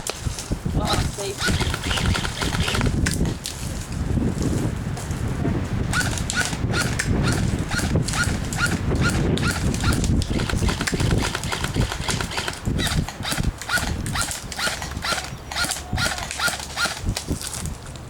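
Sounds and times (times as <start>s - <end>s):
footsteps on rough ground: 0.0s - 18.0s.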